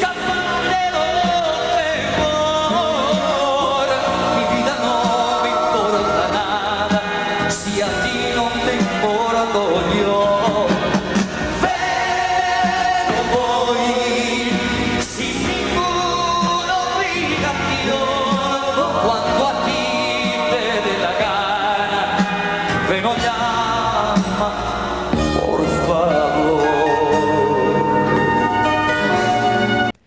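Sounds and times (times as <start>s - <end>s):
man singing a ballad: 0.0s - 28.3s
band accompaniment: 0.0s - 30.0s.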